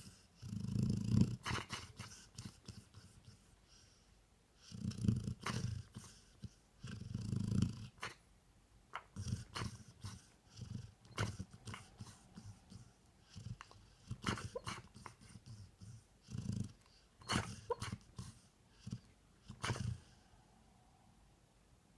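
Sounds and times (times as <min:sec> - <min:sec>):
dog snoring: 0:00.0 - 0:03.4, 0:04.6 - 0:08.2, 0:08.9 - 0:20.3.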